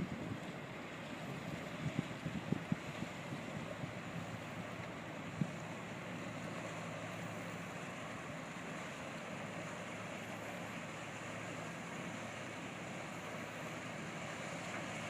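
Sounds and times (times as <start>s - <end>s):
boat engine humming: 0.0s - 15.0s
rushing water: 0.0s - 15.0s
wind: 0.0s - 15.0s.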